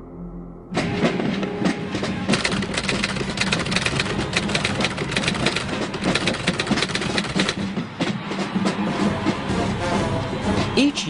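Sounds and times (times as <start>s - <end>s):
marching band drums: 0.8s - 11.0s.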